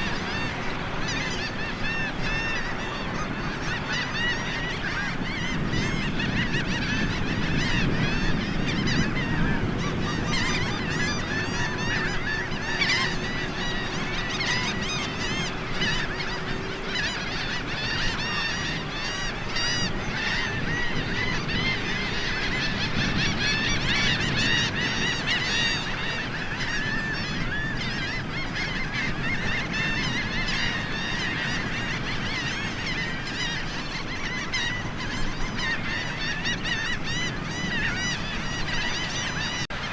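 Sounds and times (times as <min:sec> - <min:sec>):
flock of shorebirds calling: 0:00.0 - 0:39.9.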